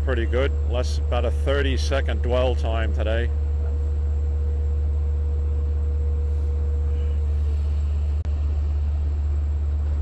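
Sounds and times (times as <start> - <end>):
steady tone: 0.0 - 9.8
diesel locomotive engine rumble: 0.0 - 10.0.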